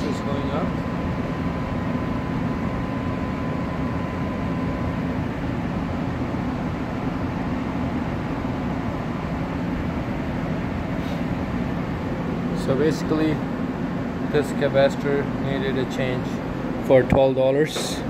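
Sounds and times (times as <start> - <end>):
oven blower fan running: 0.0 - 18.0.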